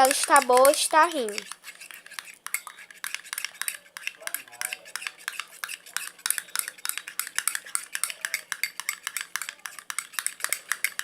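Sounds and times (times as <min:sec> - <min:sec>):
utensil stirring slime: 0:00.0 - 0:11.0
utensil tapping bowl: 0:00.0 - 0:11.0.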